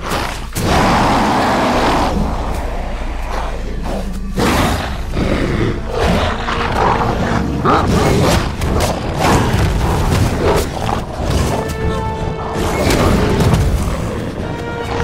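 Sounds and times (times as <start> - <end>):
wolves snarling and growling: 0.0 - 15.0.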